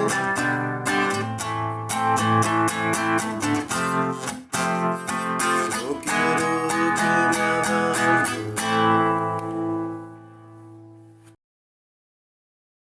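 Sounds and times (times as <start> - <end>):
acoustic guitar strumming chords: 0.0 - 11.4.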